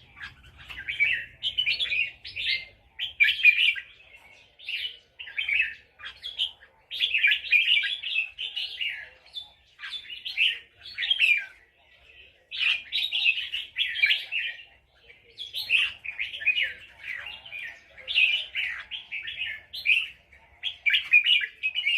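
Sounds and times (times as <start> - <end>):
bird chirping: 0.0 - 21.9.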